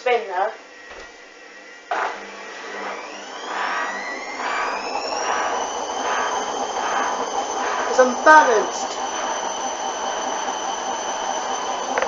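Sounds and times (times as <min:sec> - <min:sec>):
washing machine motor whine: 0:00.0 - 0:12.0.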